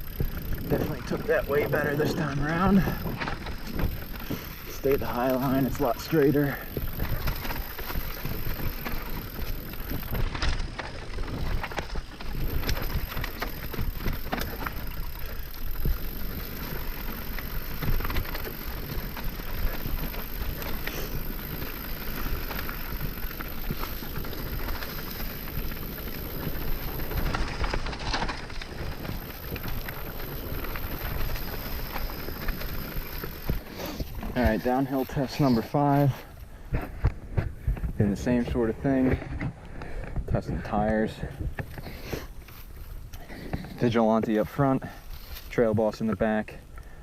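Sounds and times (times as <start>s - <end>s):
bike clicks and rattles: 0.0s - 47.0s
tires crunching over dirt and rocks: 0.0s - 47.0s.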